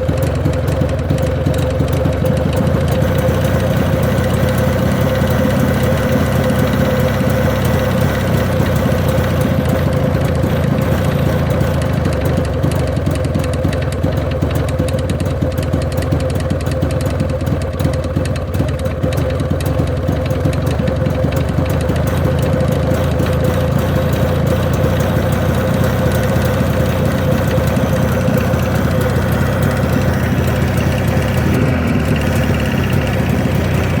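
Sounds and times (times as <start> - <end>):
engine knocking: 0.0 - 34.0
motorcycle engine idling: 0.0 - 34.0.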